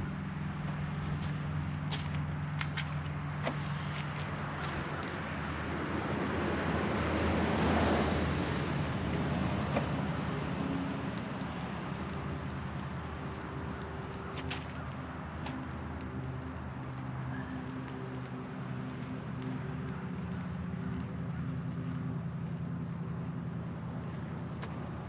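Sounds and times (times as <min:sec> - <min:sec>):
low engine-like hum: 0:00.0 - 0:25.0
motor vehicle passing: 0:00.0 - 0:25.0.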